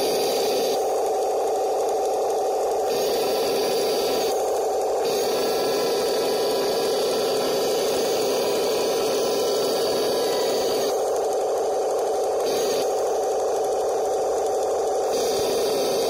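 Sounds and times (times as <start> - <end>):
toy tank tracks whirring and clattering: 0.0 - 16.0.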